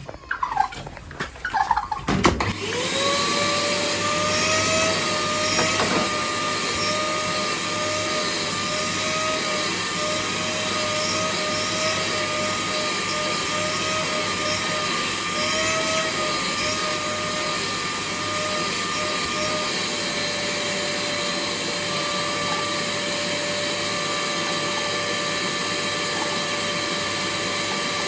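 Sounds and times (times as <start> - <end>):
vacuum cleaner motor running: 2.4 - 28.0.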